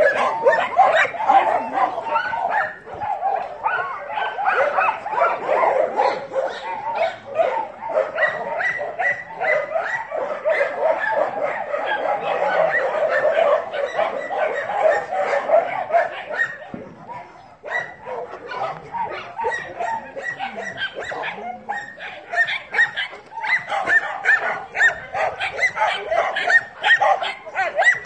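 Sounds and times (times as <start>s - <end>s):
dogs yipping and whining: 0.0s - 28.0s.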